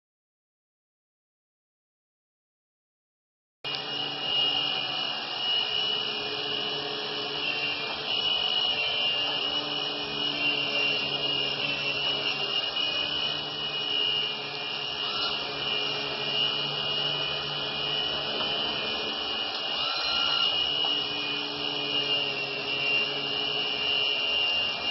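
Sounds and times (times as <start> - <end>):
small rc helicopter whirring: 3.7 - 24.9.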